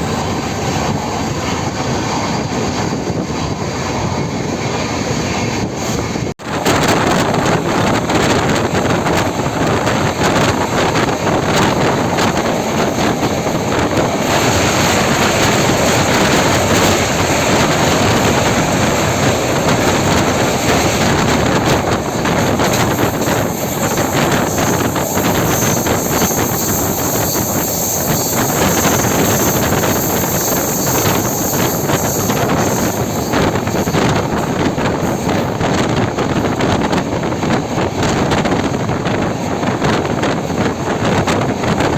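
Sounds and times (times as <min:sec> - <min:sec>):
train rumbling: 0:00.0 - 0:41.9
wind rushing over microphone: 0:00.0 - 0:41.9.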